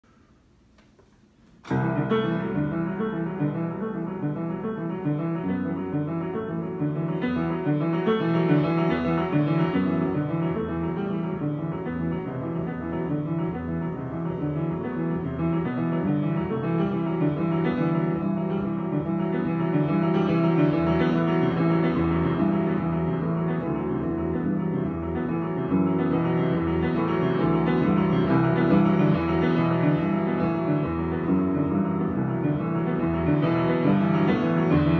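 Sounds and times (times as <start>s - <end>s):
piano improvisation: 0.0s - 34.9s.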